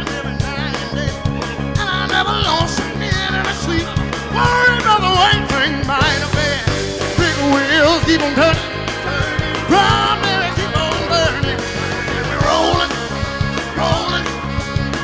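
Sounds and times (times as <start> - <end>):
bass guitar: 0.0 - 15.0
drum kit: 0.0 - 15.0
man singing: 0.0 - 15.0
trumpet: 0.0 - 15.0.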